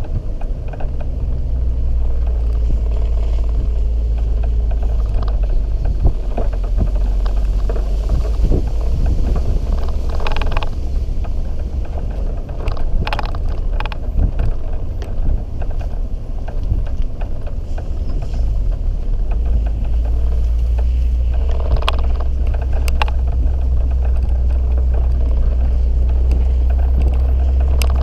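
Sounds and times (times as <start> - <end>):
engine and tyre rumble: 0.0 - 28.0
knocks from rough ground: 0.0 - 28.0.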